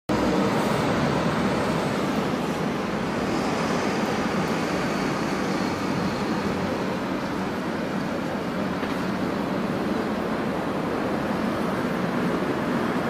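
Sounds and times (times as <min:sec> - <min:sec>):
city street traffic: 0:00.1 - 0:13.0.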